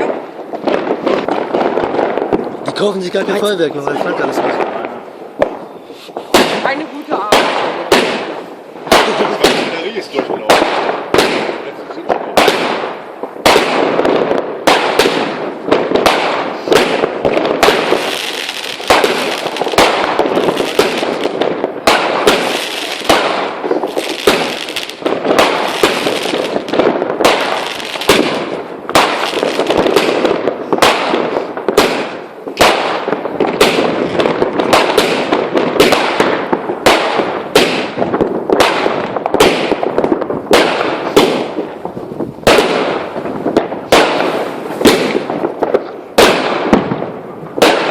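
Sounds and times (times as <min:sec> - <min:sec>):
fireworks bangs: 0:00.0 - 0:47.9
fireworks crackling: 0:00.0 - 0:47.9.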